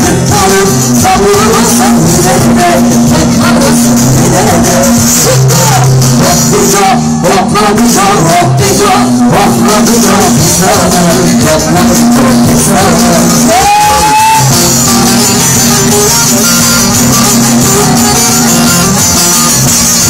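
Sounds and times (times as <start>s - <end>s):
live band song with vocals: 0.0s - 20.0s.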